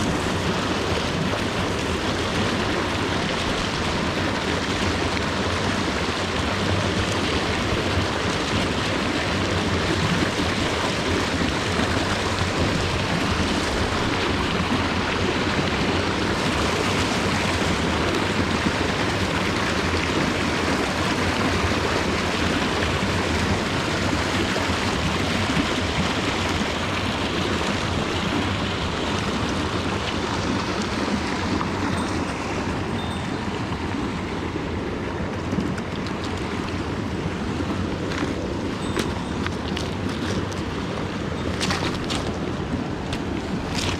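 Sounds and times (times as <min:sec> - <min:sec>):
stream rushing over rocks: 0:00.0 - 0:43.9.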